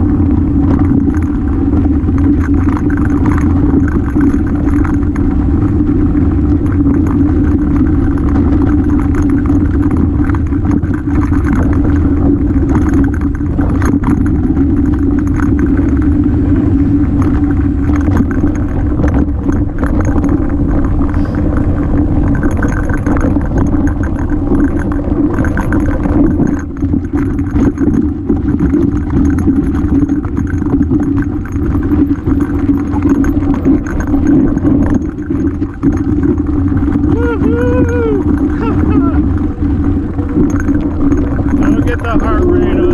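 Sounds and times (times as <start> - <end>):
bike rattling over rocks: 0.0 - 42.9
knobby tyres rumbling: 0.0 - 42.9
wind on microphone: 0.0 - 42.9.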